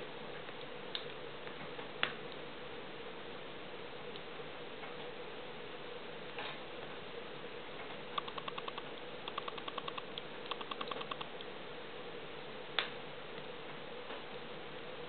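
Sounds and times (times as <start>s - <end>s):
firewood crackling in stove: 0.0s - 15.0s.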